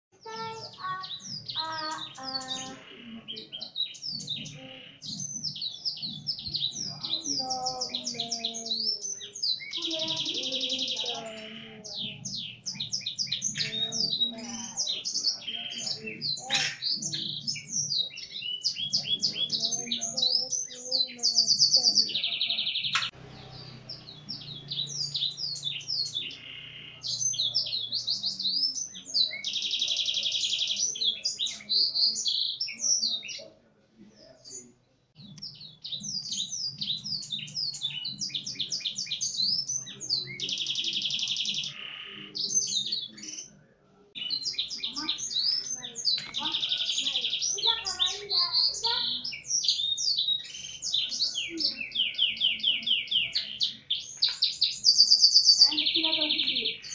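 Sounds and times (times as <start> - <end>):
canary singing trills: 0.1 - 56.9.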